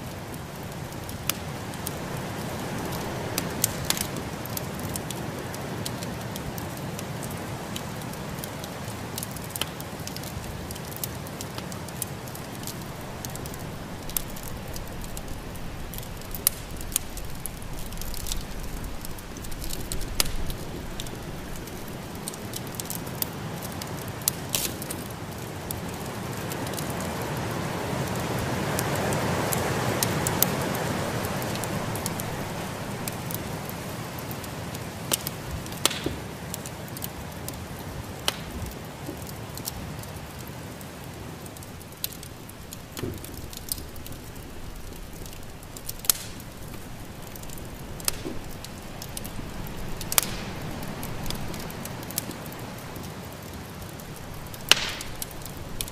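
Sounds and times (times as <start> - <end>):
fire popping: 0.0 - 55.9
wood fire crackling: 0.0 - 55.9.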